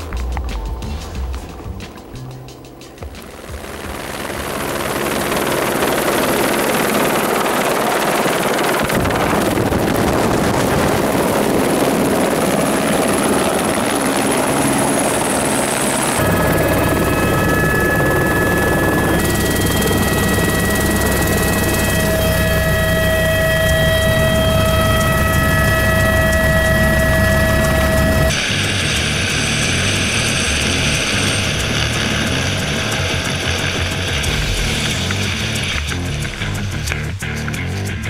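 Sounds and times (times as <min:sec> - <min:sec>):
helicopter cabin rumble and whine: 0:00.0 - 0:37.0
helicopter rotor and engine: 0:01.5 - 0:37.0.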